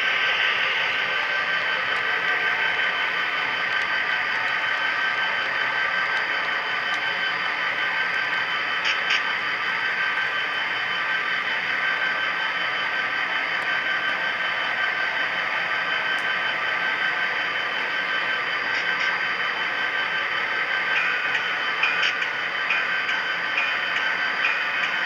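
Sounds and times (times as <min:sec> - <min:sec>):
model train hiss and whine: 0:00.0 - 0:25.0.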